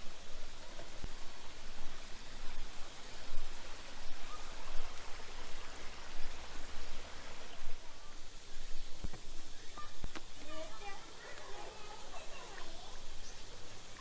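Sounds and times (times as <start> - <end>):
brook babbling over stones: 0.0 - 14.0.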